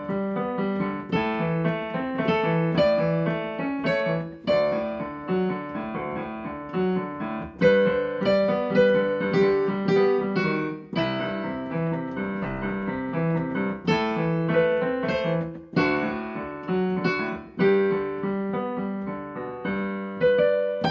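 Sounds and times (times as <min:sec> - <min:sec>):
piano melody over chords: 0:00.0 - 0:20.9.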